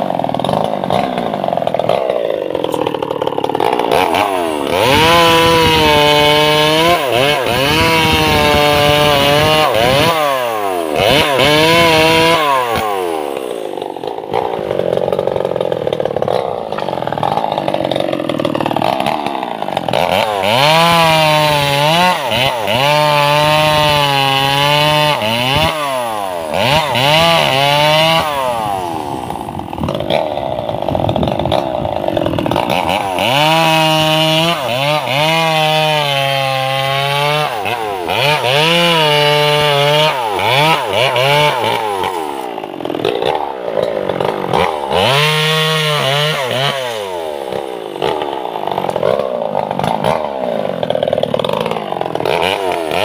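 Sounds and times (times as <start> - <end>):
chainsaw cutting logs: 0.0 - 53.0.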